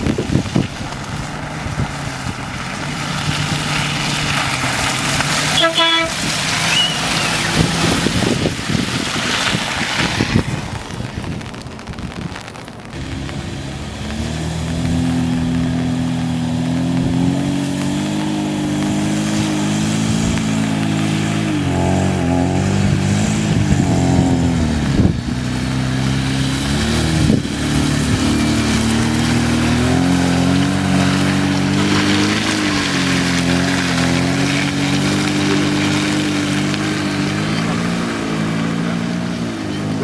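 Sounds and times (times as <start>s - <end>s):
car engine pulling at low revs: 0.0s - 40.0s.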